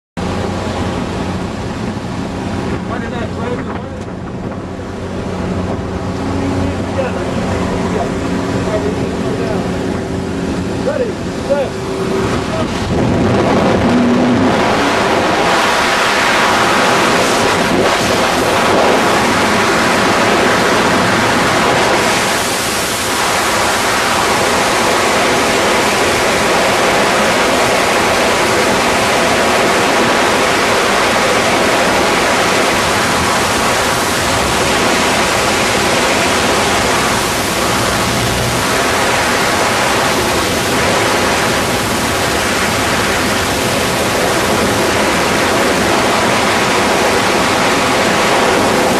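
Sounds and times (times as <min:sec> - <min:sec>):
wind blasting on microphone: 0:00.2 - 0:48.9.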